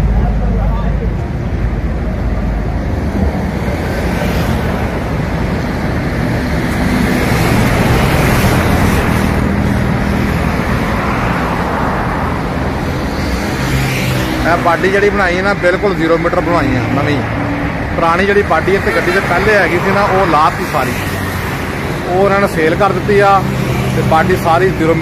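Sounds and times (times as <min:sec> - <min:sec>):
road traffic with engine hum: 0:00.0 - 0:25.0.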